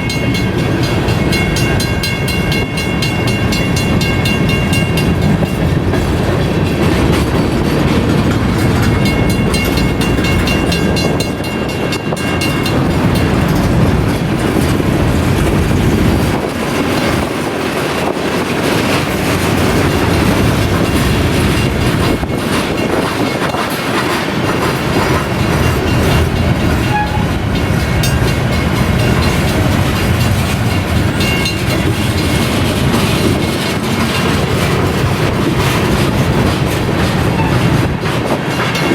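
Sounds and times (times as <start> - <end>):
freight train rumble: 0.0 - 38.9
wheels clicking over rail joints: 0.0 - 38.9.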